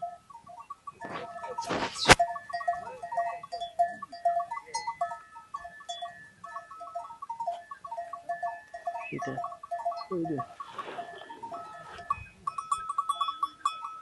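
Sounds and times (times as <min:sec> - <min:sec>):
livestock calling: 0:00.2 - 0:13.7.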